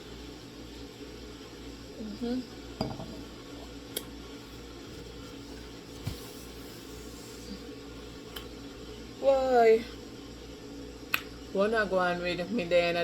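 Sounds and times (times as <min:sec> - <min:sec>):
low room hum and hiss: 0:00.0 - 0:13.0.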